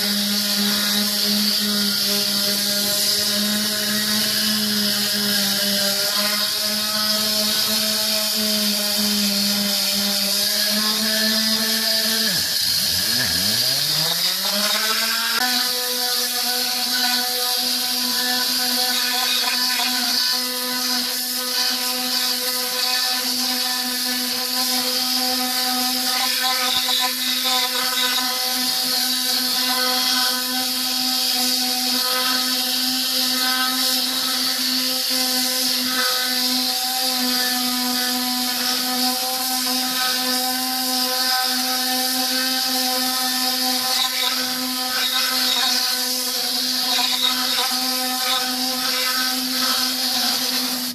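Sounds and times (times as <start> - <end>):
air and spray hissing: 0.0 - 50.9
air cleaning gun humming: 0.0 - 50.9.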